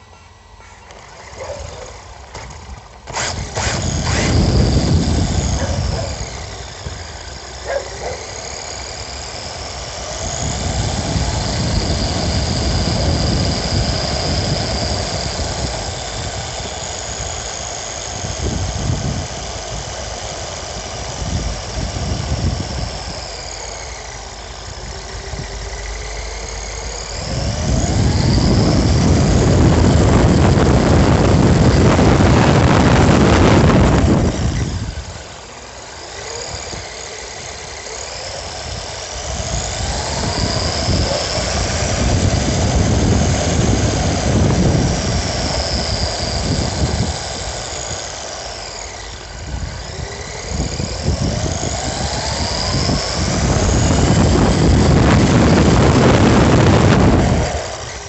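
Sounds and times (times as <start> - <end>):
toy car electric motor whining: 0.0 - 58.0
tyres rumbling on asphalt: 0.0 - 58.0.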